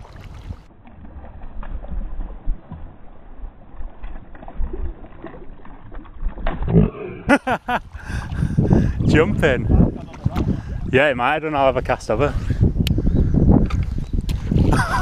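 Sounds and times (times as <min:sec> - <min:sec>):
wind rumble on microphone: 0:00.0 - 0:06.8, 0:07.6 - 0:15.0.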